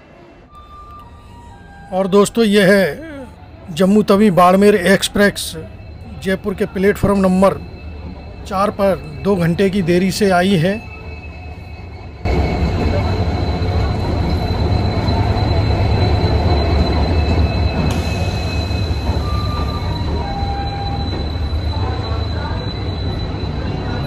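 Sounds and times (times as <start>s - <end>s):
diesel locomotive engine rumble: 0.0s - 24.0s
train coaches rolling by: 0.0s - 24.0s
high-pitched wheel squeal: 0.5s - 24.0s.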